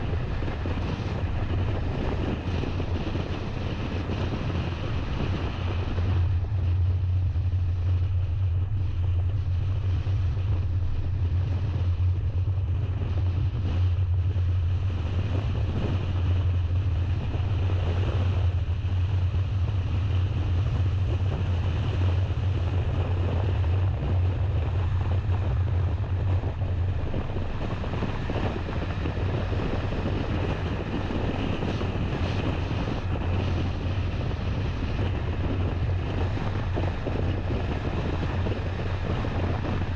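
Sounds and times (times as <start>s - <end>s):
car engine and tyres droning: 0.0s - 39.9s
wind and road noise: 0.0s - 39.9s.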